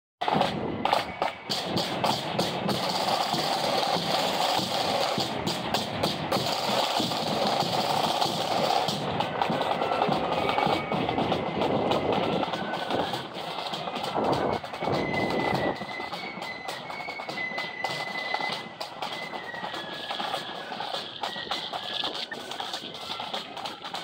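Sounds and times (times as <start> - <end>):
drums marking the beat: 0.2 - 24.0
marching band playing: 0.2 - 24.0.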